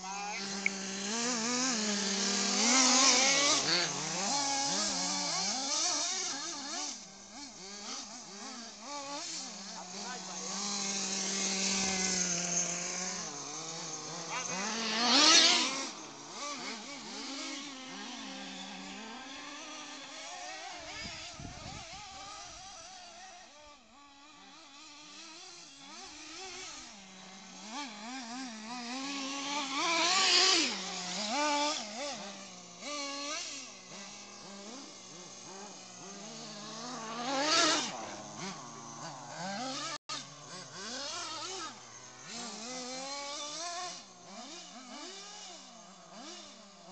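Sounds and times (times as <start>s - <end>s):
rc car engines revving: 0.0s - 46.9s
rc cars passing by: 0.0s - 46.9s.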